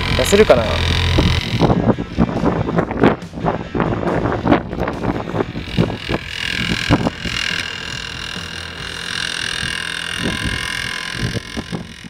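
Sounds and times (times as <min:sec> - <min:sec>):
electric polisher motor whine: 0:00.0 - 0:12.0.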